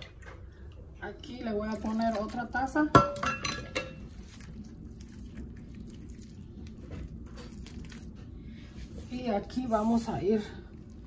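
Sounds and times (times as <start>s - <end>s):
hand mixing wet dough: 0.0s - 3.0s, 3.6s - 11.0s.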